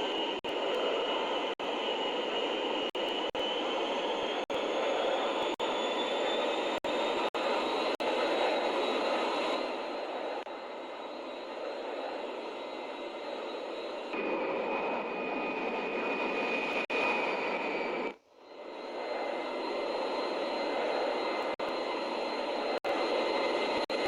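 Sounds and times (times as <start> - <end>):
aircraft engine rush with whine: 0.0 - 24.0.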